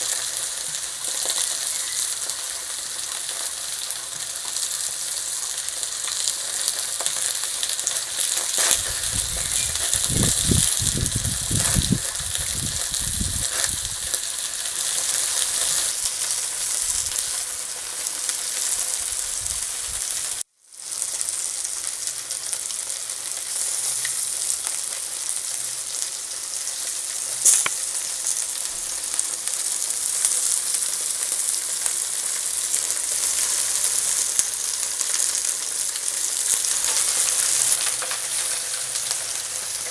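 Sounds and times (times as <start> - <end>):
meat sizzling on a grill: 0.0 - 39.9
sharp crackle: 0.0 - 39.9.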